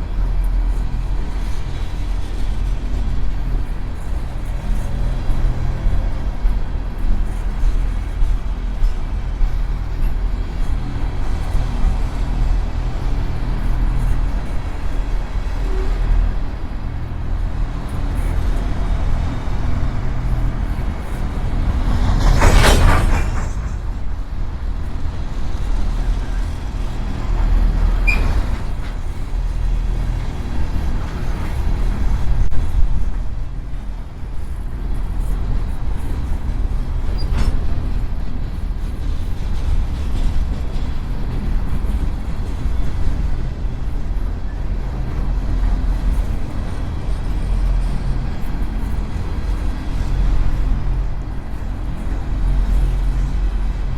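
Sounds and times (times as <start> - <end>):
freight train wheels rumbling on rail: 0.0 - 53.9.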